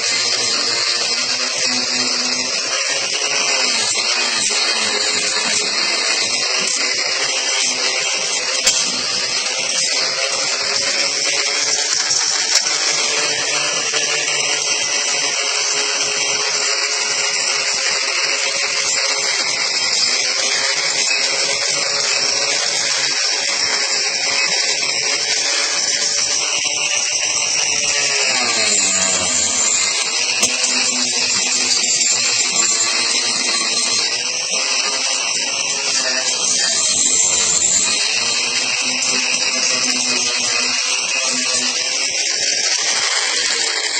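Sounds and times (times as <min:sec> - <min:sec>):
electric grinder grinding wood: 0:00.0 - 0:43.9.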